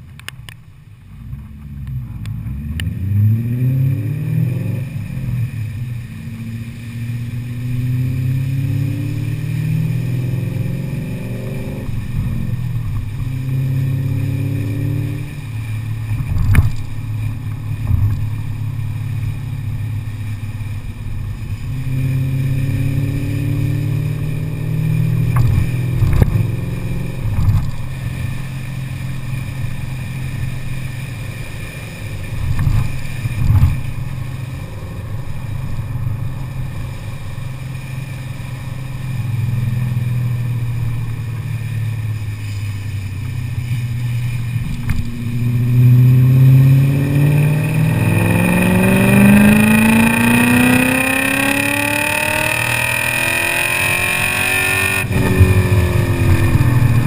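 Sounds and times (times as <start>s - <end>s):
car engine exhaust drone: 0.0s - 57.0s.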